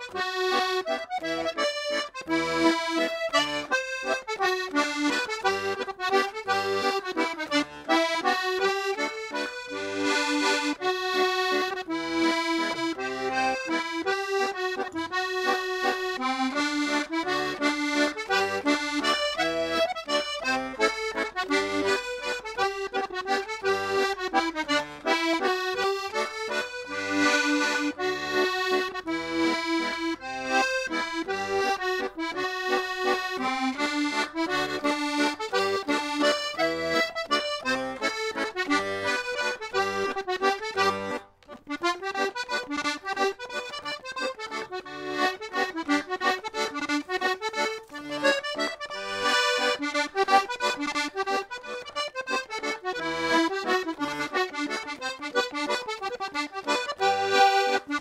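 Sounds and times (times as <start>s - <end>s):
button accordion playing a waltz: 0.0s - 58.0s.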